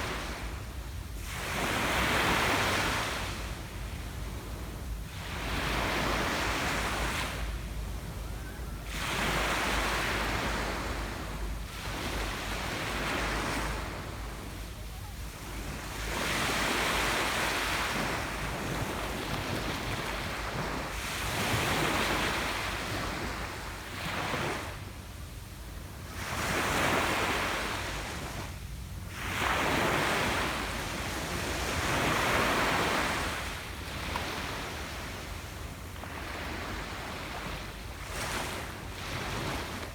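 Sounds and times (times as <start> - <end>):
ocean waves breaking on beach: 0.0 - 24.9, 26.0 - 39.9
low wind rumble on microphone: 0.0 - 39.9.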